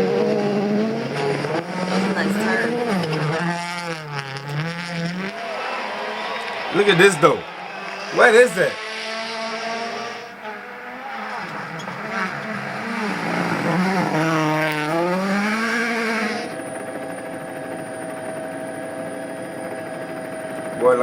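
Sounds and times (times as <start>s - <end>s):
rally car engine revving: 0.0s - 16.9s.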